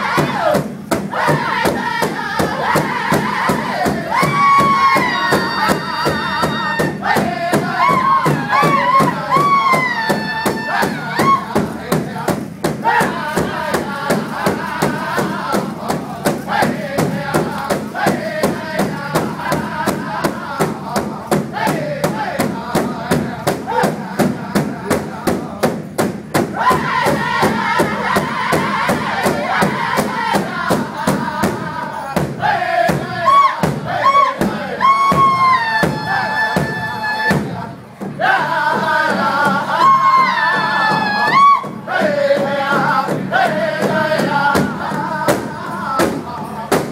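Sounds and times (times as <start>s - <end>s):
high wailing voices singing: 0.0s - 25.8s, 26.4s - 46.9s
large drum beaten fast: 0.0s - 46.9s.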